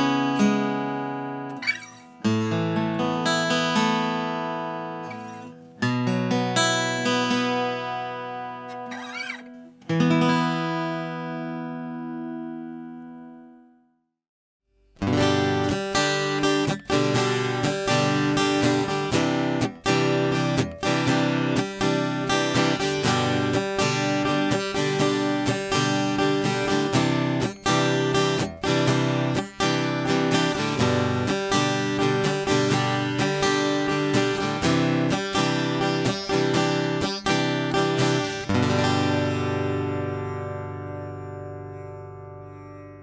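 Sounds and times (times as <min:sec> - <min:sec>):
acoustic guitar strumming chords: 0:00.0 - 0:13.8, 0:15.0 - 0:43.0.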